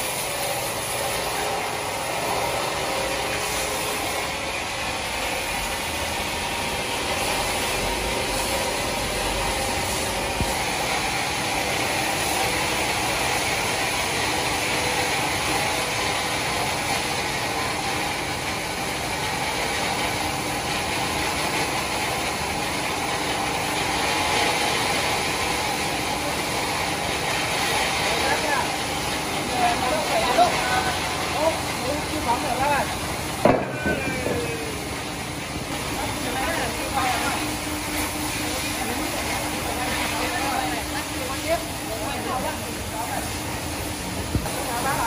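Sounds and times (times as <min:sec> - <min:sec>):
band sawmill cutting log: 0:00.0 - 0:45.0.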